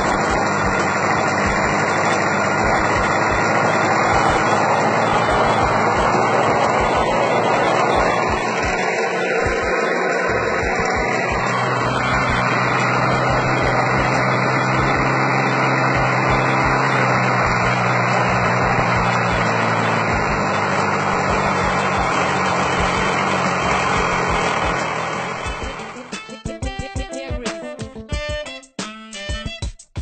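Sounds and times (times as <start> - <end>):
model airplane engine running: 0.0 - 26.4.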